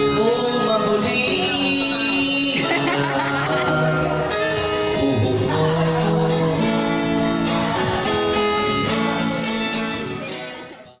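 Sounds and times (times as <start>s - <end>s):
acoustic guitar background music: 0.0s - 11.0s.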